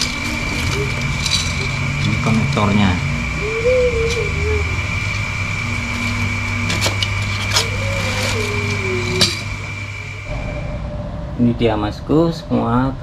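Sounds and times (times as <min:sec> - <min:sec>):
steady high whine: 0:00.0 - 0:13.0
steady low hum: 0:00.0 - 0:13.0.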